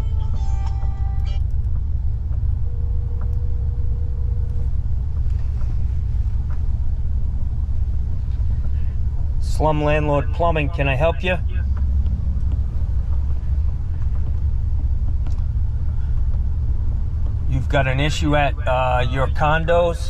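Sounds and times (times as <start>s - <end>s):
truck cabin rumble: 0.0s - 20.0s.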